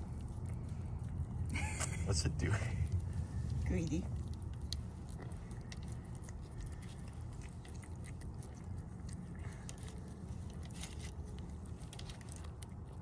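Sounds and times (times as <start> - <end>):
low steady rumble: 0.0 - 13.0
kitten chewing clicks: 2.4 - 13.0.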